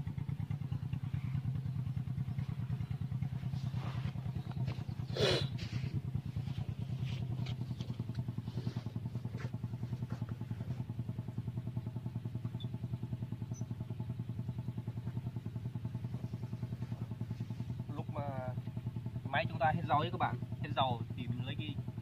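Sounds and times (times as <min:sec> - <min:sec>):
diesel tractor engine idling: 0:00.0 - 0:22.0.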